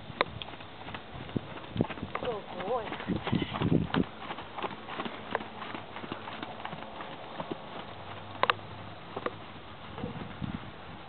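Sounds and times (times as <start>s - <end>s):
hooves thudding on sand: 0.0s - 11.0s.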